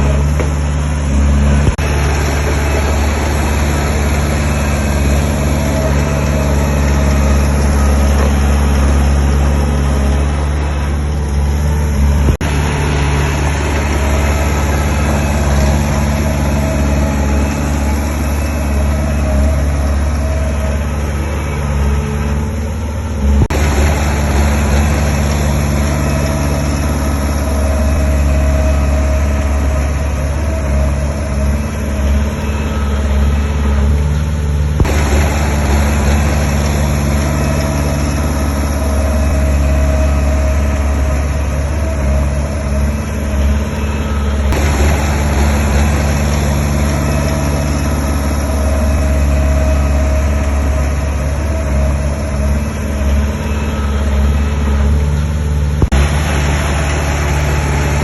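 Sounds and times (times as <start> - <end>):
heavy diesel engine rumbling: 0.0 - 58.0.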